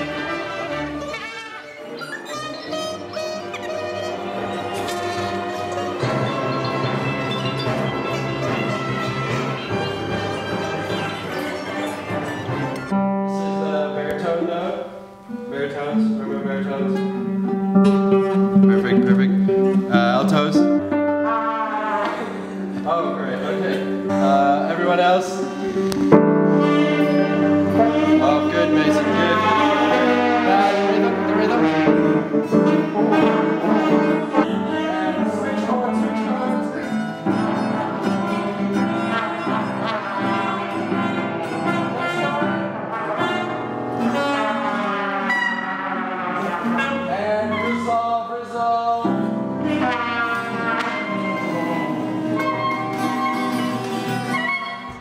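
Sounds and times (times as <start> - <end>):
mixed ensemble playing: 0.0 - 55.0.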